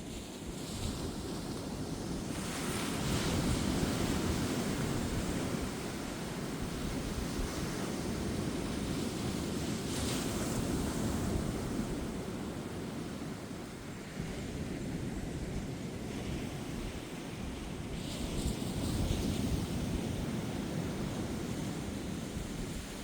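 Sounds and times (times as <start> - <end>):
ocean waves breaking on beach: 0.0 - 23.0
wind noise on microphone: 0.0 - 23.0.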